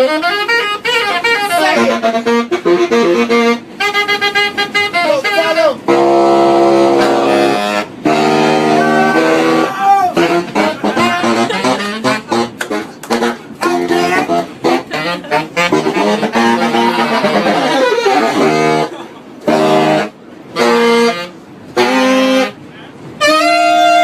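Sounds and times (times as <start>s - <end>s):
saxophone solo: 0.0s - 24.0s.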